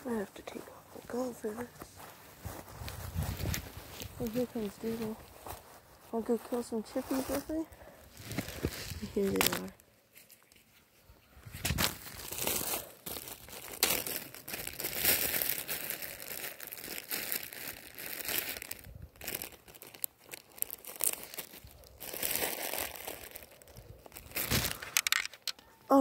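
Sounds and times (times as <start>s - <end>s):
plastic bag crinkling: 3.0s - 10.5s, 11.7s - 25.6s.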